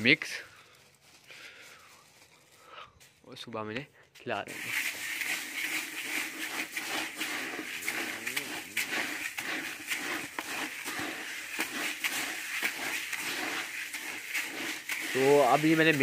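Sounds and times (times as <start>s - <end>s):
hand stirring dry bird seed: 0.0s - 16.0s.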